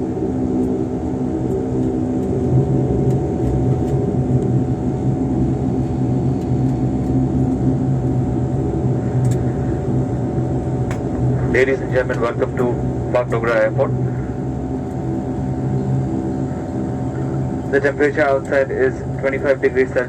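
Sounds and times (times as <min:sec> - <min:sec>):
airliner engines droning in cabin: 0:00.0 - 0:20.0.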